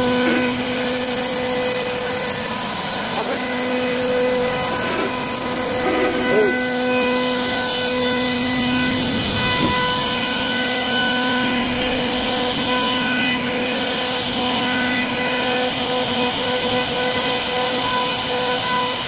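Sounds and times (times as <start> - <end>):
router bit cutting wood: 0.0 - 19.0
router spindle whine: 0.0 - 19.0.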